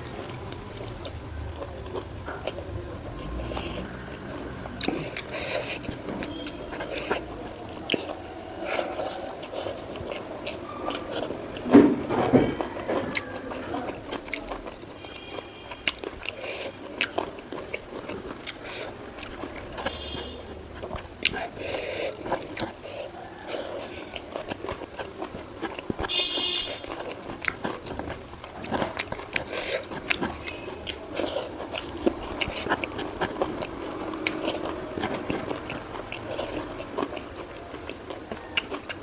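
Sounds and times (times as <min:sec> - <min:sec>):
person chewing and biting food: 0:00.0 - 0:39.0.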